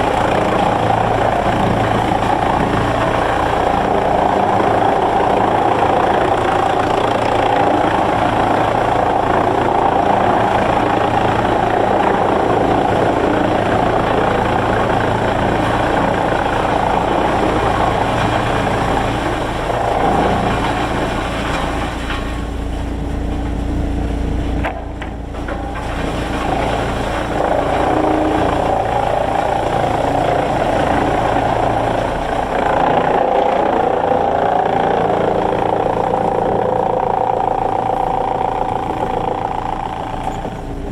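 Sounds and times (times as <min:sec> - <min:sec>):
heavy machinery engine running: 0:00.0 - 0:40.9.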